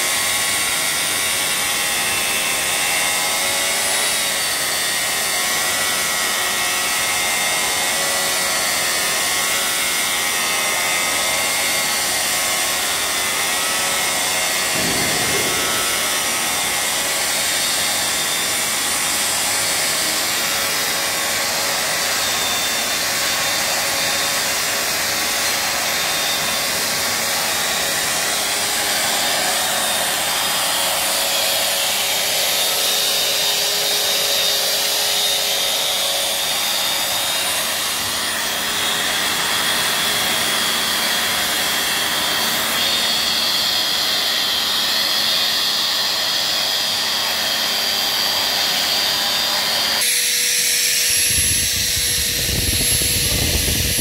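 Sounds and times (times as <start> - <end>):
angle grinder motor whine: 0.0 - 54.0.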